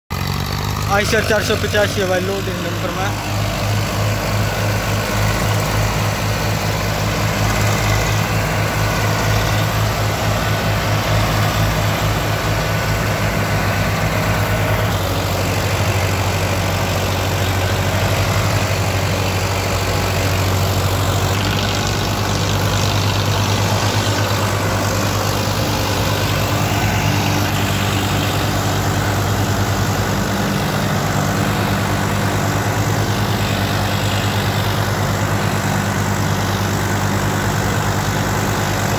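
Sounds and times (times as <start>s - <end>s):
tractor diesel engines running hard: 0.1s - 38.9s.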